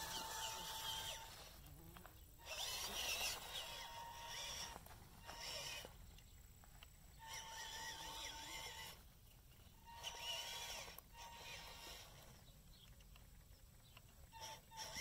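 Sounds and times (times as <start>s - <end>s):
small electric motor whining: 0.0s - 12.5s, 14.2s - 15.0s.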